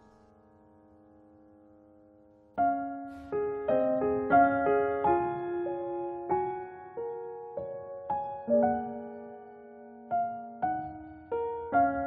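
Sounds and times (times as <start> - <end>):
piano melody: 0.0 - 12.0.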